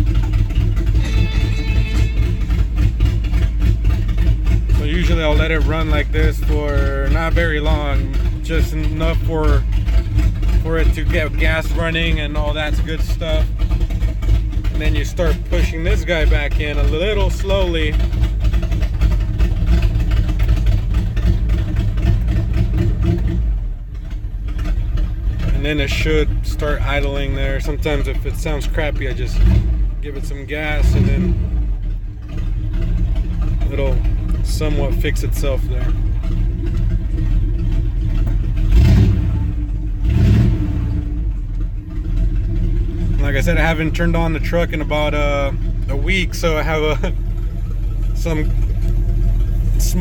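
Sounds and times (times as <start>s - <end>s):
pickup engine running: 0.0s - 50.0s.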